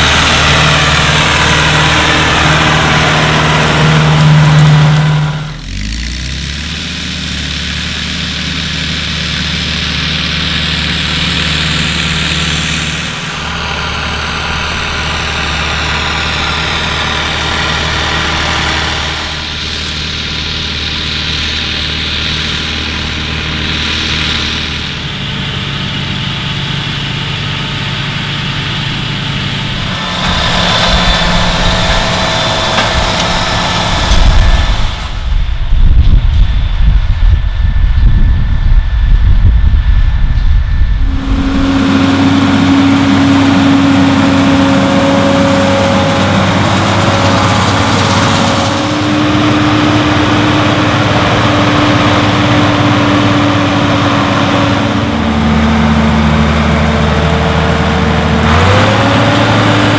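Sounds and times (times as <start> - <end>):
louder tractor pulling cultivator: 0.0 - 37.4, 41.0 - 59.9
tractor diesel engine running: 0.0 - 59.9.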